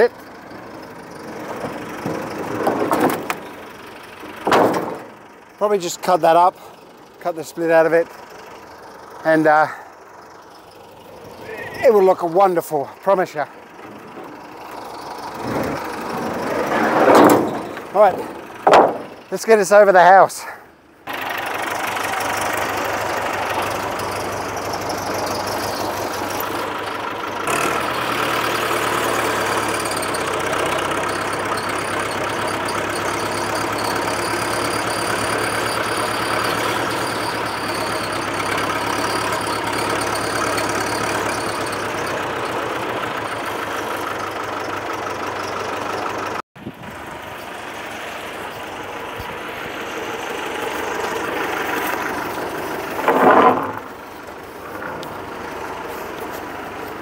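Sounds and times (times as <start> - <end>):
quieter steady engine sound: 0.0 - 57.0
tractor engine running: 0.0 - 57.0.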